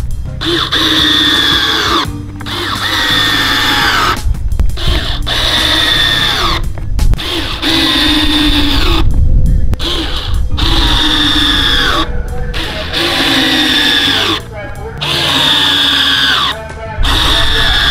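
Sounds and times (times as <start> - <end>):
background music: 0.0 - 17.9
cordless drill motor whining: 0.0 - 17.9.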